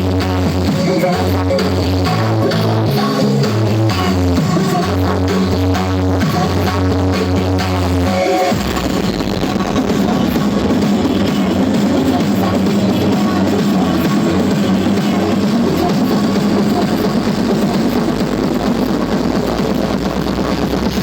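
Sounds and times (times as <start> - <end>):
loud bass-heavy rock music: 0.0 - 21.0.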